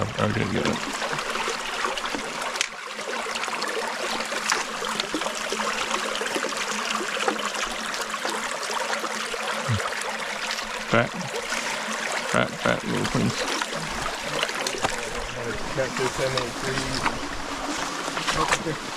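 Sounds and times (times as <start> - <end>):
stream water trickling: 0.0 - 18.9.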